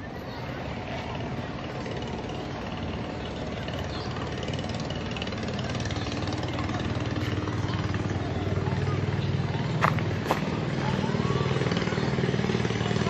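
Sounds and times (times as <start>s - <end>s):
small vehicle engine humming: 0.0s - 13.0s.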